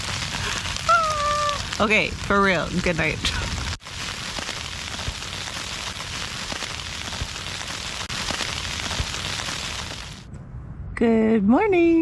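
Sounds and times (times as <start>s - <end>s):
snow hissing on tent fabric: 0.0s - 10.3s.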